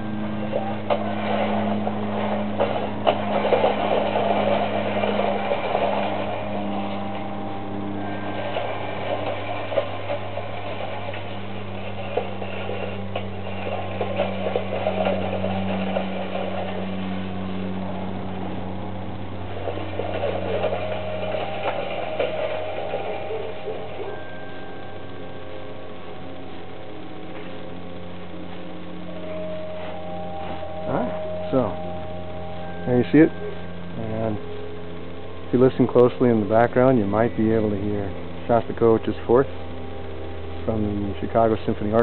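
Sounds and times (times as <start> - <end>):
reel mower whirring clatter: 0.0 - 42.0
steady low hum: 0.0 - 42.0.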